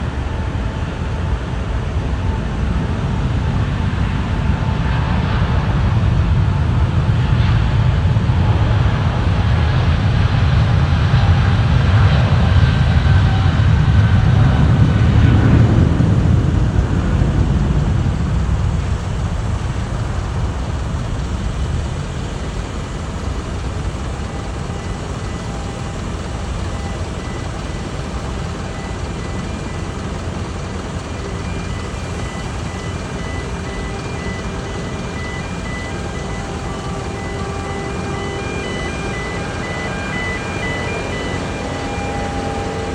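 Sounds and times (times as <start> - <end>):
jet airliner taking off: 0.0 - 42.9.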